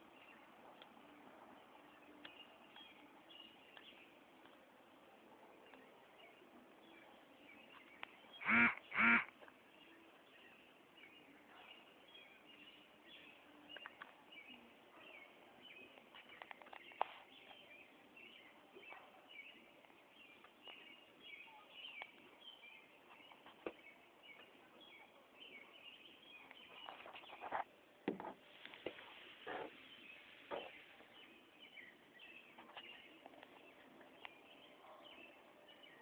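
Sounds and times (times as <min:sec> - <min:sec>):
small birds chirping: 0:00.0 - 0:27.8, 0:28.4 - 0:36.0.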